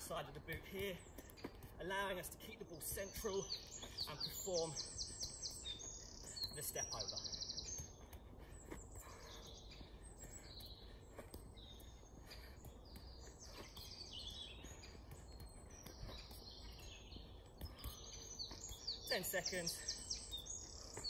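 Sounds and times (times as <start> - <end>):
birds chirping and trilling: 0.0 - 21.0.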